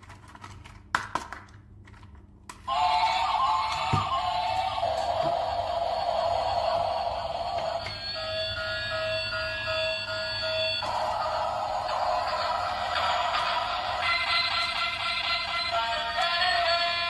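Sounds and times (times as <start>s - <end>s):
toy train electronic tune: 2.7s - 17.0s.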